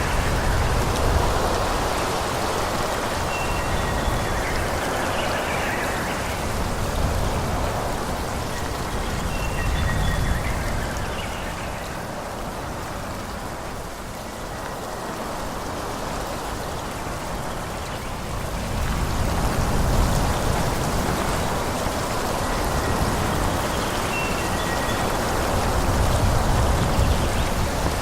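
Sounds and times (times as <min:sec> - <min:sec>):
wind through forest: 0:00.0 - 0:28.0.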